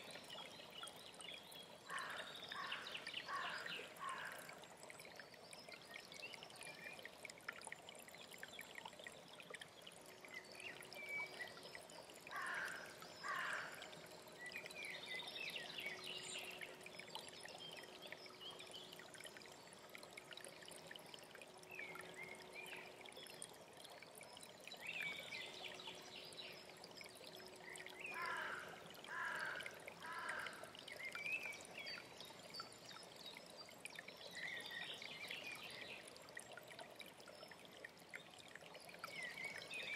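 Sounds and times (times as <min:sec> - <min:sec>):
songbirds singing: 0:00.0 - 0:07.3, 0:08.3 - 0:20.4, 0:21.4 - 0:39.9
mountain stream running: 0:00.0 - 0:39.9.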